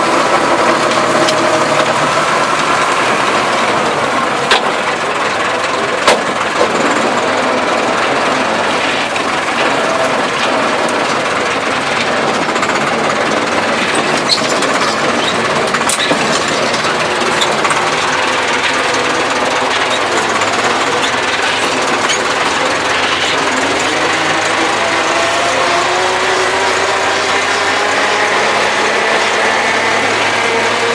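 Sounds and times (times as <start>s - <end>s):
soil implement clattering: 0.0s - 30.9s
tractor engine under load: 0.0s - 30.9s.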